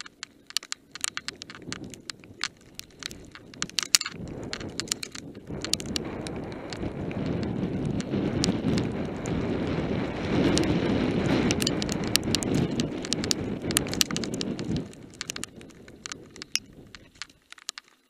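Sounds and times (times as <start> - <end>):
bike tyres rolling on gravel: 0.0 - 18.0
sharp clicks and rattles: 0.0 - 18.0.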